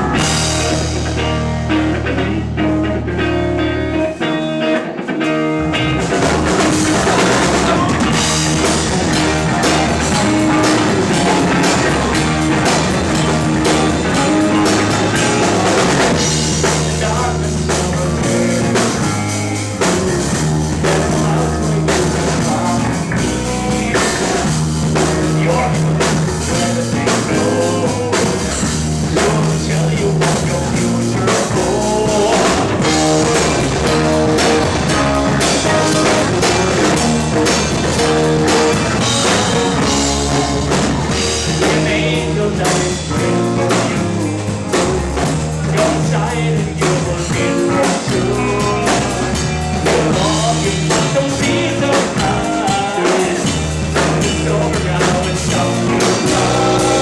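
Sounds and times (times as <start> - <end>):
live rock band playing: 0.0 - 57.0
person singing: 6.1 - 57.0.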